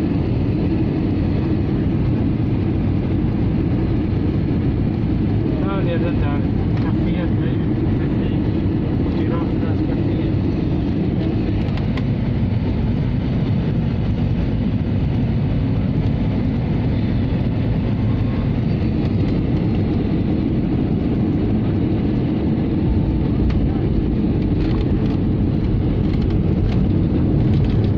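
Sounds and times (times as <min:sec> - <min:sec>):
jet airliner rumble: 0:00.0 - 0:27.9.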